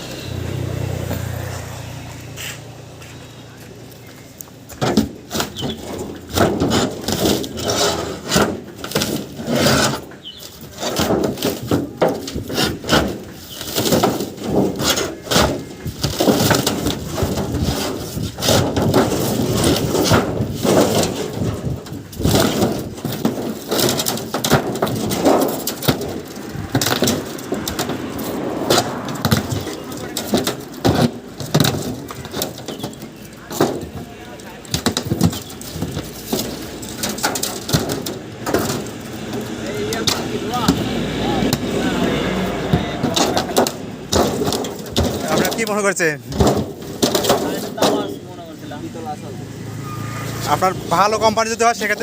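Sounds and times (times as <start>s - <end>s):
refrigerator being broken apart: 4.8s - 48.3s.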